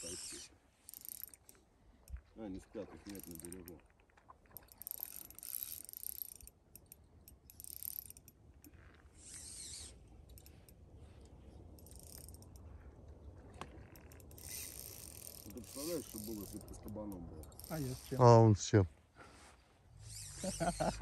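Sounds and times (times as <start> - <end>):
fishing reel ratcheting whir: 0.0 - 2.2, 3.0 - 3.8, 4.5 - 12.7, 13.6 - 18.4, 20.0 - 21.0
small reel clicks: 0.0 - 18.4, 20.0 - 21.0.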